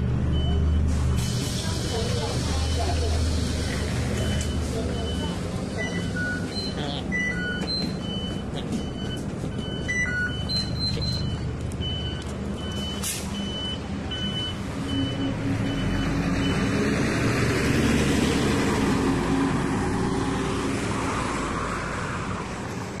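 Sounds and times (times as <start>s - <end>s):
bus engine running: 0.0s - 23.0s.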